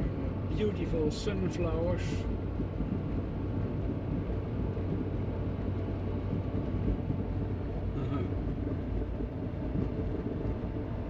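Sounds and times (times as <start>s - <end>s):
car road and engine rumble: 0.0s - 11.0s
low hum: 0.0s - 11.0s.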